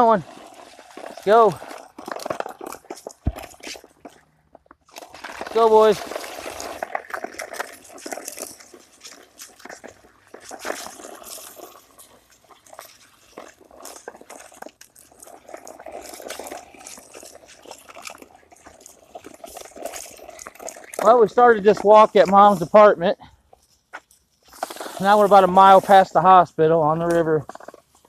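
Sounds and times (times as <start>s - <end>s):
crunches and clicks of dogs walking: 0.0s - 28.0s
footsteps on path: 0.1s - 26.1s.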